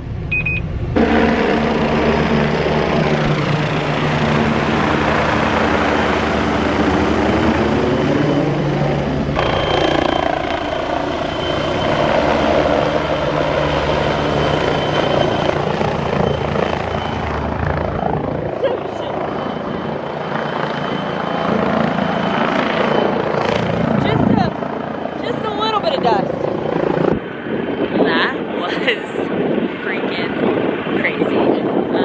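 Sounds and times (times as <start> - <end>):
helicopter flying low overhead: 0.0 - 32.0.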